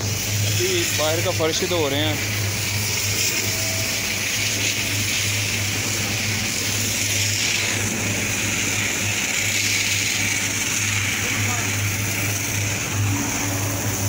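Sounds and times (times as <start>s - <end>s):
engine droning: 0.0s - 14.0s
water jet spraying on paving: 0.0s - 14.0s.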